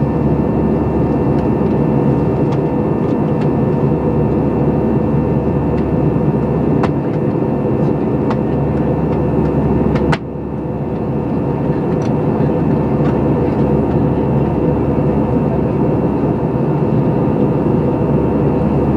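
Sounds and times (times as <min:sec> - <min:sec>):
airliner cabin engine noise: 0:00.0 - 0:18.9.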